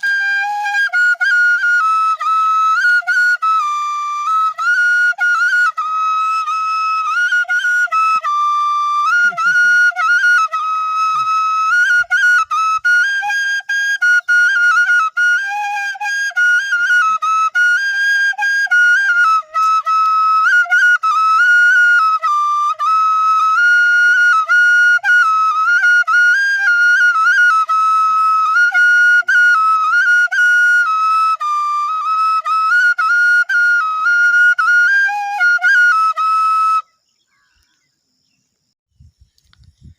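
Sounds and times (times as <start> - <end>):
bamboo flute melody: 0.0 - 37.6.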